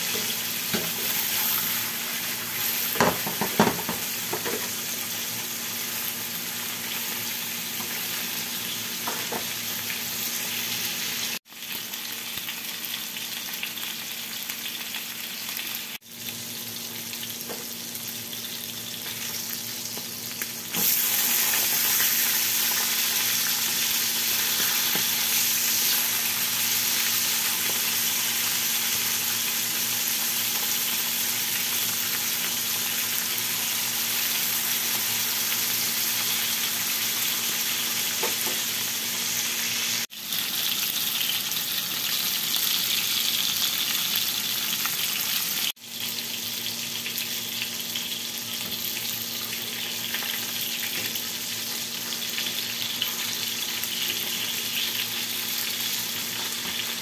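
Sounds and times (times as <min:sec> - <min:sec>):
fish sizzling in a frying pan: 0:00.0 - 0:57.0.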